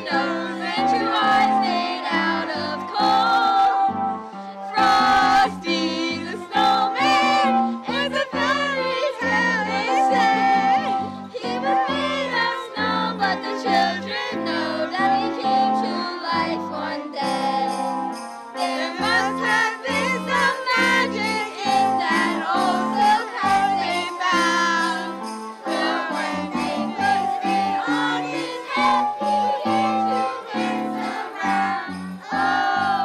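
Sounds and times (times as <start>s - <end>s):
girls singing: 0.0s - 3.9s, 4.7s - 17.9s, 18.6s - 33.0s
backing music with jingle bells: 0.0s - 33.0s.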